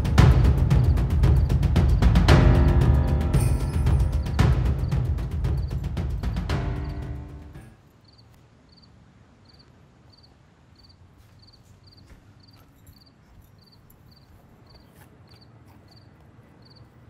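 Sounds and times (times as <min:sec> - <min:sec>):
faint cricket chirping: 0:00.1 - 0:16.9.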